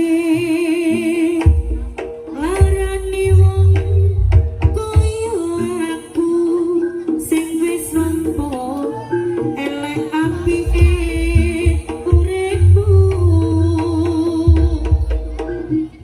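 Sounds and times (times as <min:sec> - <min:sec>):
hand drum beats: 0:00.0 - 0:16.0
metallic percussion: 0:00.0 - 0:16.0.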